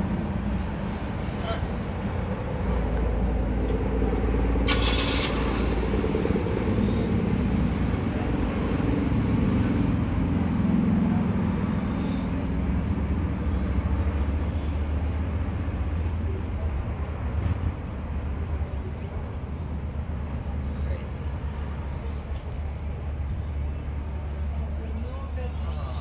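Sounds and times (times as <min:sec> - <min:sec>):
motor vehicle engine rumbling: 0:00.0 - 0:26.0.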